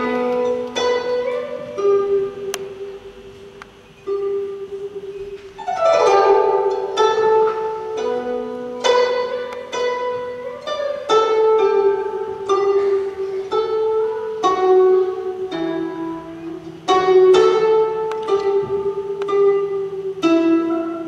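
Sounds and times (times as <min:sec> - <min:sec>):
zither plucked notes: 0:00.0 - 0:21.0.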